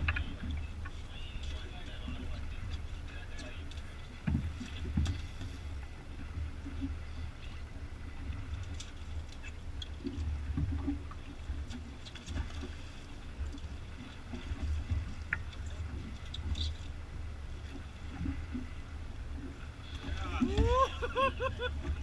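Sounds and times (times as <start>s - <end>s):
low uneven rumble: 0.0s - 22.0s
water lapping against boat hull: 0.0s - 22.0s.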